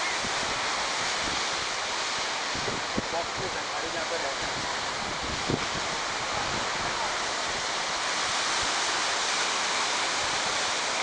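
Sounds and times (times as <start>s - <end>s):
ocean surf breaking over rocks: 0.0s - 11.0s.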